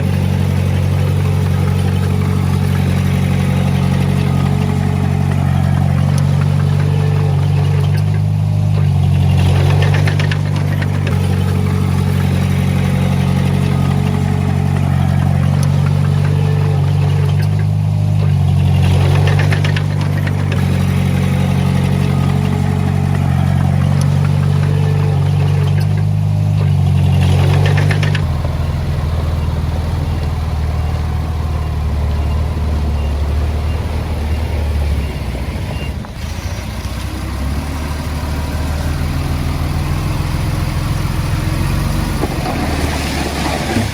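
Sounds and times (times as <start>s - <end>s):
diesel engine running hard: 0.0s - 43.9s
engine clatter: 0.0s - 43.9s.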